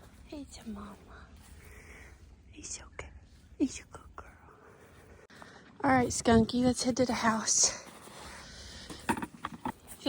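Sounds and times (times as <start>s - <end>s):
soft footsteps: 0.0s - 10.0s.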